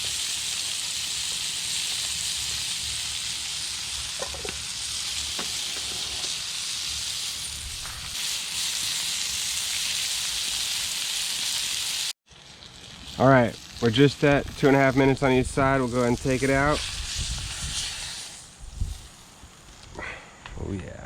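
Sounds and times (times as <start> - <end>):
steak sizzling in a skillet: 0.0 - 19.8.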